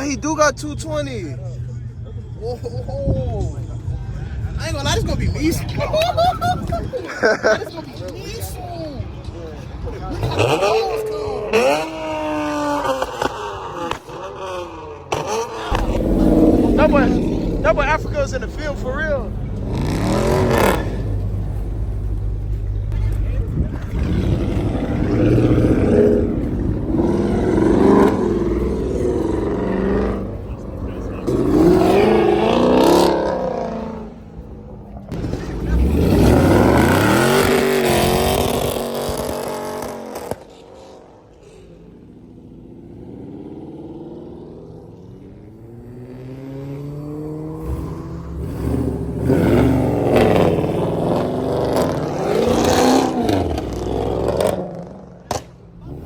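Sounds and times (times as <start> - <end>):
car engine revving: 10.2 - 56.0.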